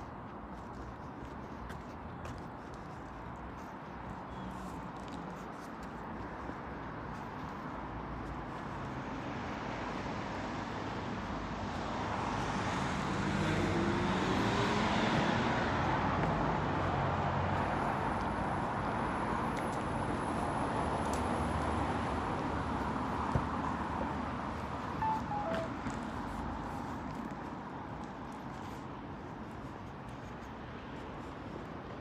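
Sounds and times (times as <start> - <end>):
road vehicle noise: 0.0 - 32.0.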